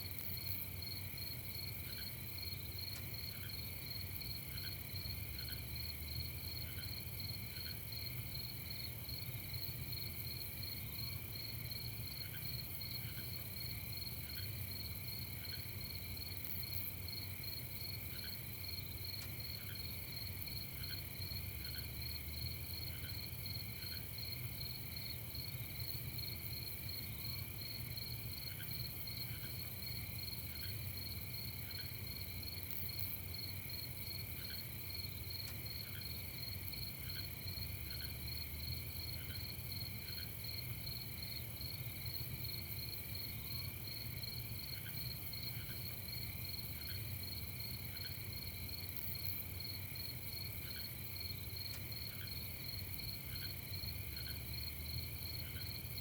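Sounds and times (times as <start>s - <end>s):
crickets chirping in trills: 0.0s - 56.0s.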